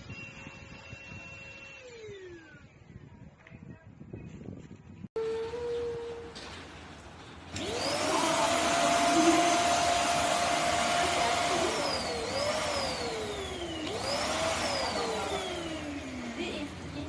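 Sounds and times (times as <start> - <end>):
vacuum cleaner motor whine: 0.0 - 3.0, 5.2 - 6.4, 7.5 - 17.0.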